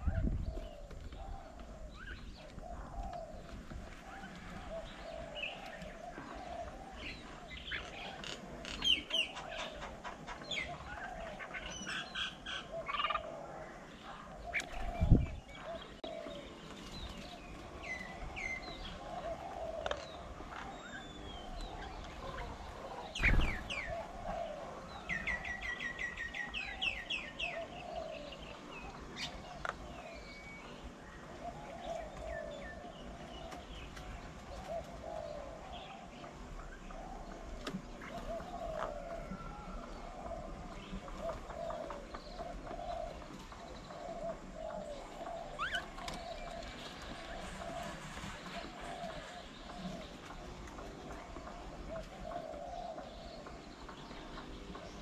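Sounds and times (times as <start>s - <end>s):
birds chirping and whistling: 0.0s - 55.0s.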